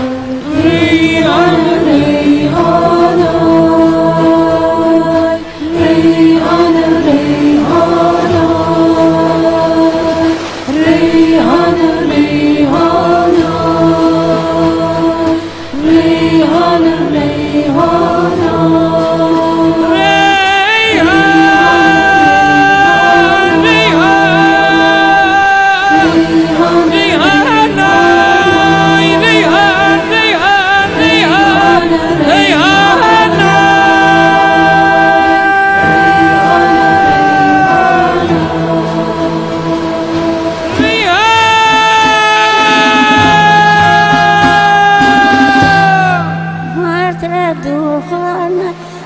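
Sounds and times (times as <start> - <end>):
higher voice with vibrato: 0.0 - 49.0
person singing long notes: 0.0 - 49.0.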